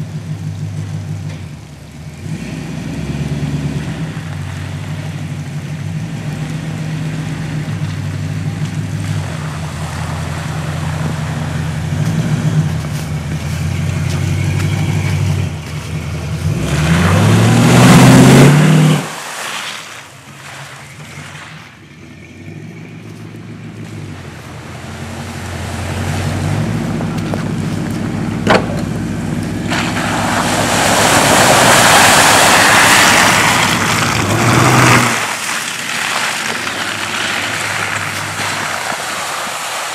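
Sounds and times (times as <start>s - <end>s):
car passing on snow: 2.2s - 39.9s
pickup truck accelerating past: 2.2s - 39.9s.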